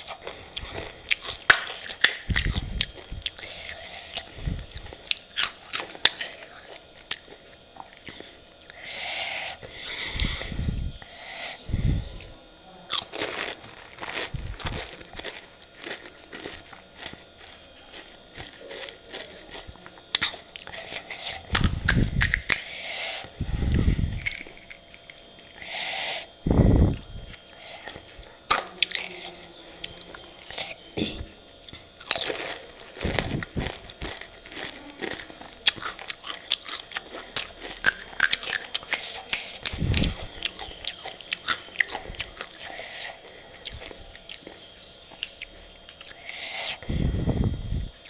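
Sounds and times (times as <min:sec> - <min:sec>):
chewing crisp shells: 0:00.0 - 0:11.4, 0:12.0 - 0:48.0.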